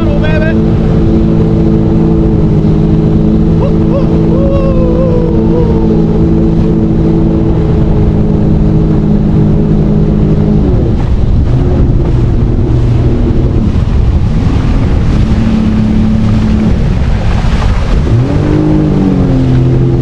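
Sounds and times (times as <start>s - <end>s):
jet ski engine: 0.0s - 20.0s
wind on microphone: 0.0s - 20.0s.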